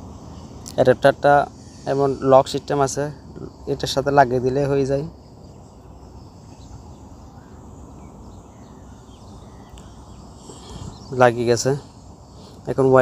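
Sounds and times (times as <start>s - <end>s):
low outdoor background noise: 0.0s - 13.0s.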